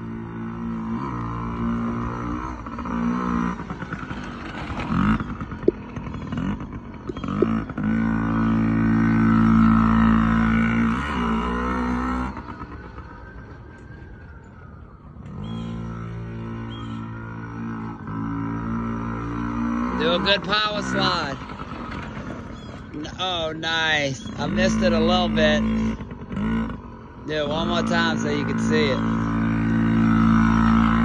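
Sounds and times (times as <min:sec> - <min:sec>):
dirt bike engine revving: 0:00.0 - 0:13.4, 0:15.2 - 0:31.0.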